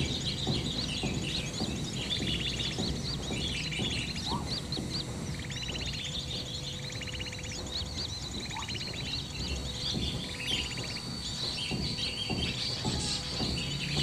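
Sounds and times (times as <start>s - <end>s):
buzzy rattling bird trill: 0.0s - 14.0s
recorded bird calls from player: 0.0s - 14.0s
small birds chirping: 0.0s - 14.0s.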